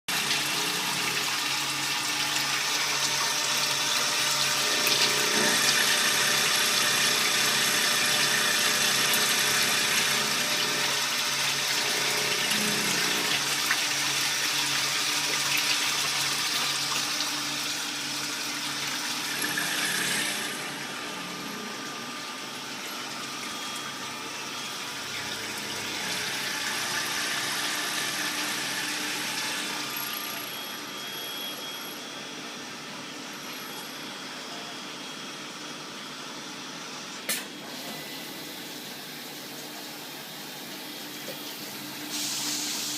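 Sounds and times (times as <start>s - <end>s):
flowing coolant: 0.1s - 42.9s
lathe machine hum: 0.1s - 42.9s.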